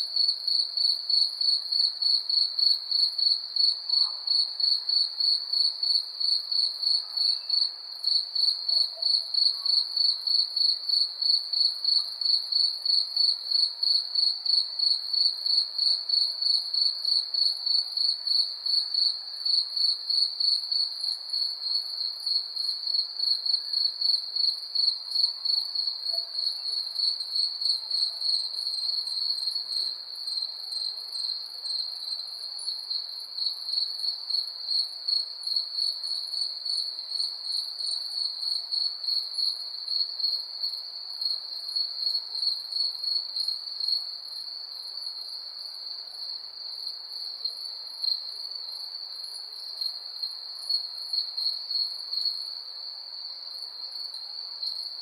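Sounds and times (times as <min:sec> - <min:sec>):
crickets chirping: 0:00.2 - 0:55.0.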